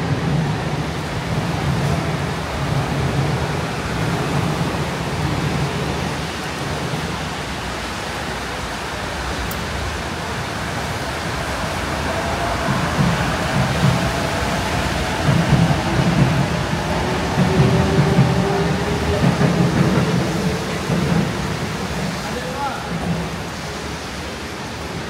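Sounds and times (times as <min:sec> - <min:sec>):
rain hissing: 0:00.0 - 0:25.0
street traffic rumble: 0:00.0 - 0:25.0.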